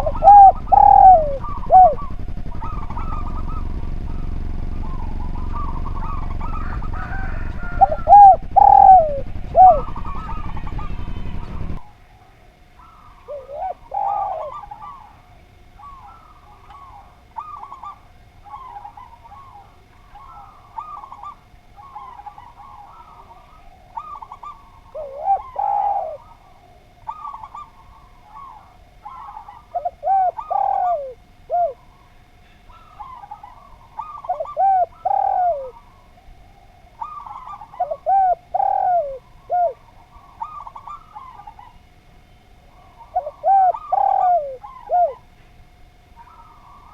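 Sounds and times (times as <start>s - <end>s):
dove cooing: 0.0s - 46.9s
softer higher bird calls: 0.0s - 46.9s.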